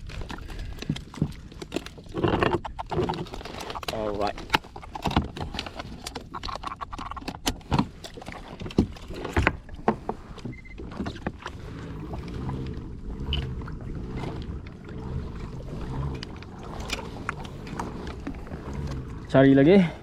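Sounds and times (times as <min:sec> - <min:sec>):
kayak moving on water: 0:00.0 - 0:20.0
knocks and clatter on kayak: 0:00.0 - 0:20.0.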